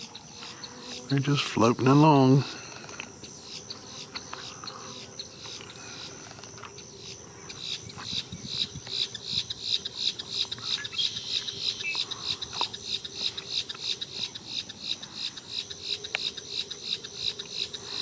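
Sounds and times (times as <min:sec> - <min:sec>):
high insect hiss: 0:00.0 - 0:18.0.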